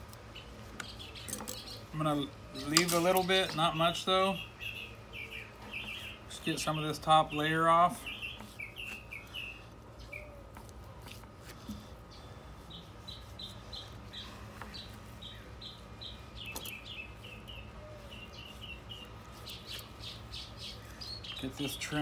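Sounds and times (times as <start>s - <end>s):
songbird chirping: 0.3s - 10.7s, 11.7s - 22.0s.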